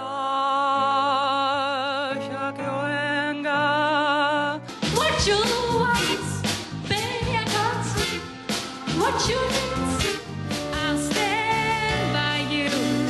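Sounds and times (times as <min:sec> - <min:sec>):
pop song with singing and drums: 0:00.0 - 0:13.0.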